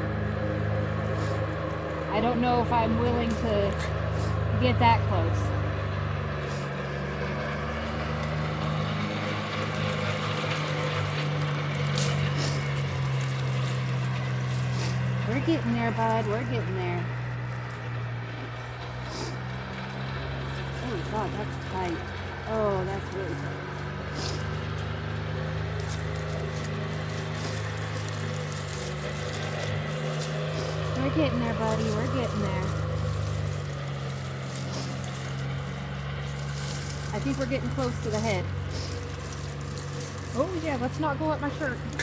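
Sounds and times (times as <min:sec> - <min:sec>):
low mechanical hum: 0:00.0 - 0:42.0.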